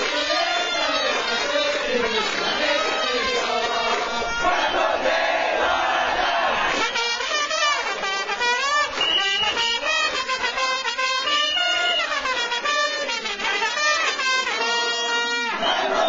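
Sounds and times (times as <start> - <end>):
trumpets playing brass melody: 0.0 - 6.0, 6.6 - 16.0.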